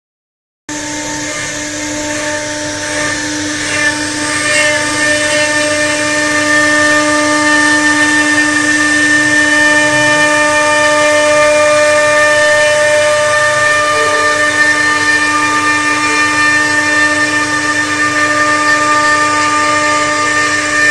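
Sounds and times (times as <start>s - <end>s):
bit cutting wood: 0.7s - 20.9s
router spindle whining: 0.7s - 20.9s.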